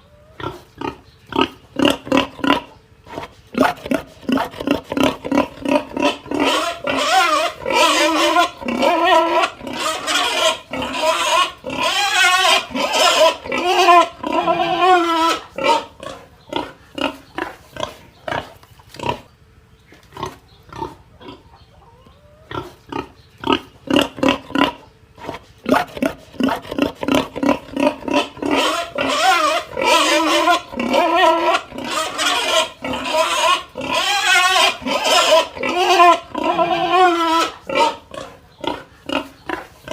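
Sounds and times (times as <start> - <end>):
pig squealing and grunting: 0.0 - 19.3, 20.1 - 39.9.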